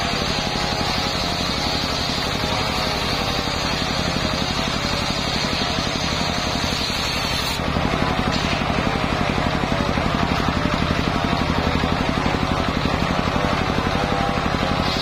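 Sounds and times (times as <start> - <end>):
saw blade cutting wood: 0.0 - 15.0
sawmill engine running: 0.0 - 15.0.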